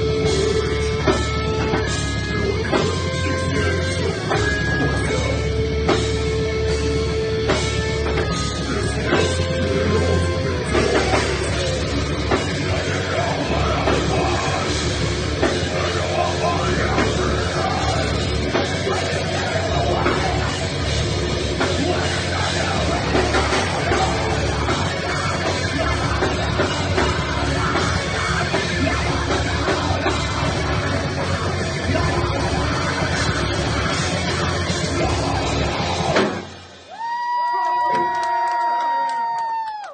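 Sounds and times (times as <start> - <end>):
heavy rock band playing: 0.0 - 38.2.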